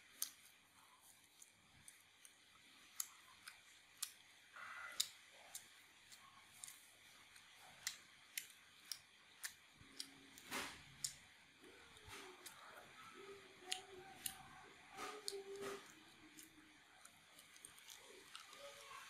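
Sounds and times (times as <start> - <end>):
chewing with sharp clicks: 0.1 - 11.2, 11.9 - 19.0.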